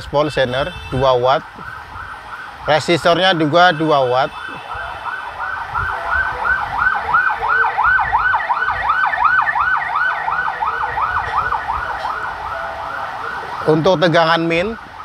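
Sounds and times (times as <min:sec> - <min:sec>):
siren yelping: 0:00.7 - 0:15.0.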